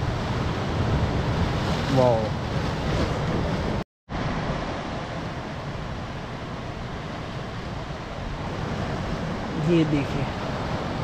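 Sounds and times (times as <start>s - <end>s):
sea surf washing over rocks: 0.0s - 11.0s.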